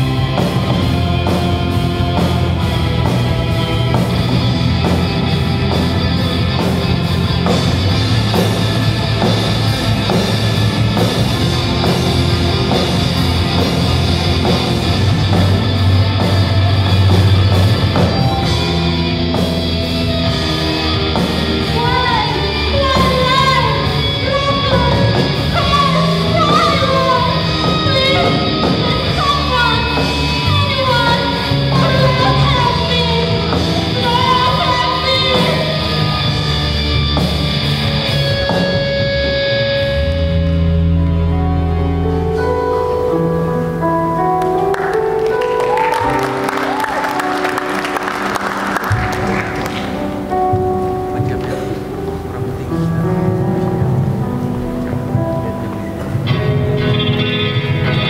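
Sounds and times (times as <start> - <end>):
bending lead guitar melody: 0.0 - 58.0
rock band playing loudly: 0.0 - 58.0.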